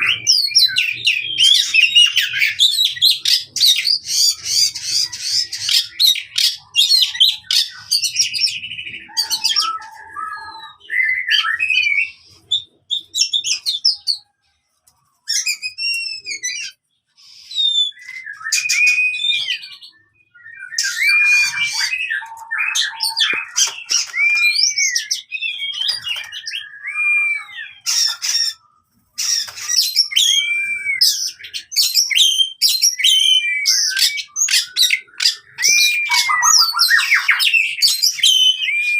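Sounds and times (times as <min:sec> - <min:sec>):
songbird singing: 0:00.0 - 0:14.3, 0:15.3 - 0:38.9.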